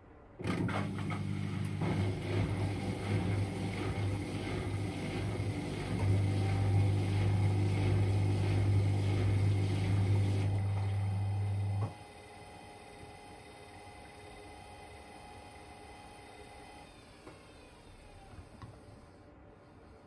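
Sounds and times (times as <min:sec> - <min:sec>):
washer dryer drum motor humming: 0:00.4 - 0:19.1.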